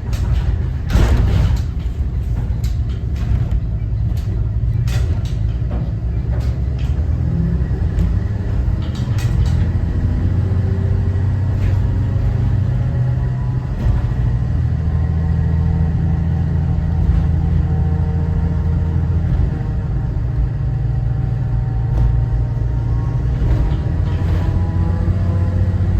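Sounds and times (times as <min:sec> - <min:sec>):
bus rattles and clicks: 0:00.0 - 0:25.9
diesel bus engine drone: 0:00.0 - 0:25.9.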